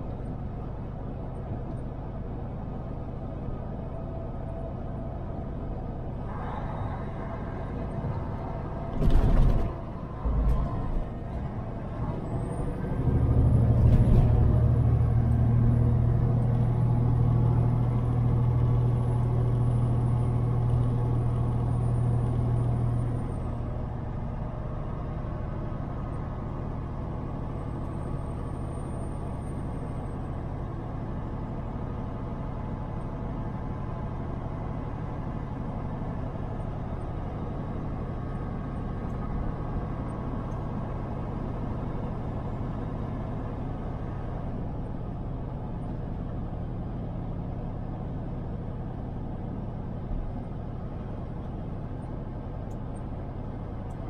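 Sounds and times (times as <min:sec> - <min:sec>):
road noise: 0:00.0 - 0:54.0
truck diesel engine: 0:00.0 - 0:54.0.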